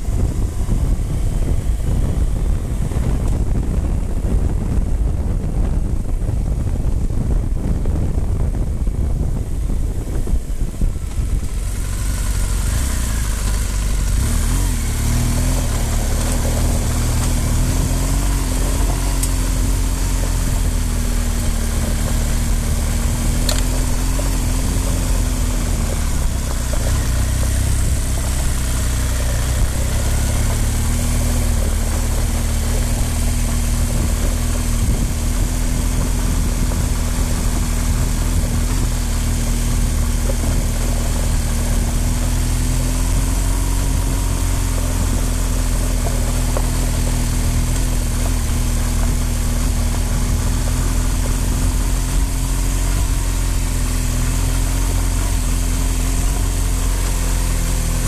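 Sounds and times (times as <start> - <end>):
heavy low rumble: 0.0 - 58.0
motorcycle engine running: 0.0 - 58.0.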